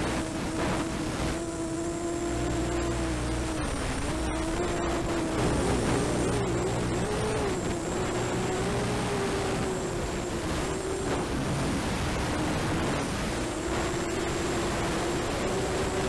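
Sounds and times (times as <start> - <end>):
quadcopter motors buzzing whine: 0.0 - 16.0
steady hiss: 0.0 - 16.0.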